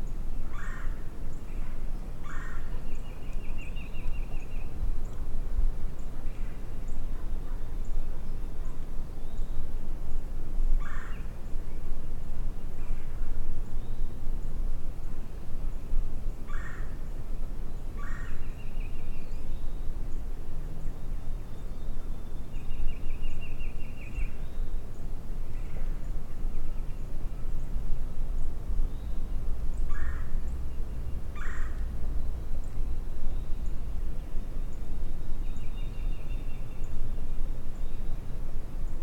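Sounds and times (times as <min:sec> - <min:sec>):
low wind rumble: 0:00.0 - 0:39.0.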